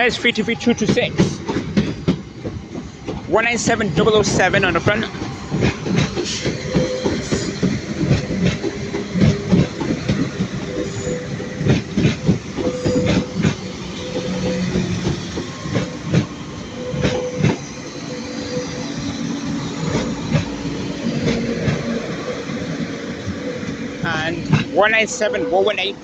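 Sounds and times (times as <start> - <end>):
train wheels clattering over track: 0.0 - 25.3
train rumble: 0.0 - 26.0.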